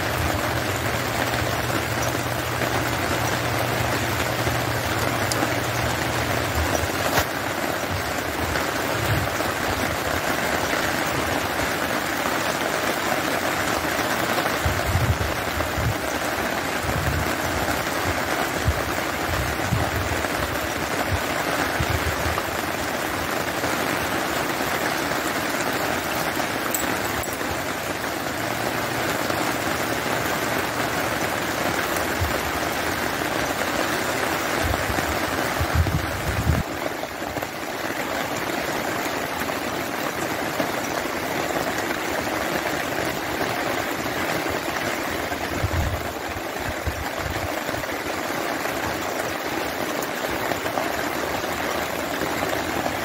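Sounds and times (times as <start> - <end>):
rain on wet ground: 0.0 - 53.0.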